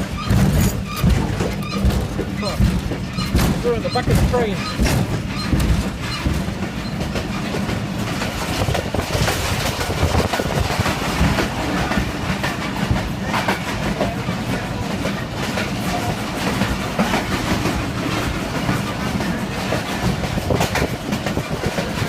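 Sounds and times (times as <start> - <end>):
train rumble and rattle: 0.0 - 22.0
wheels clacking over rail joints: 0.0 - 22.0.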